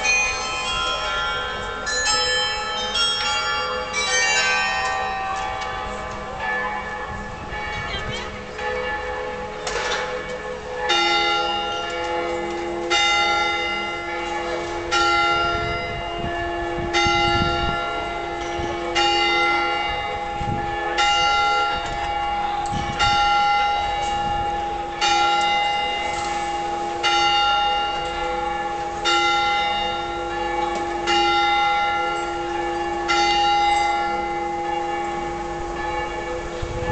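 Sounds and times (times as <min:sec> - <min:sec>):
carillon bells playing: 0:00.0 - 0:36.9.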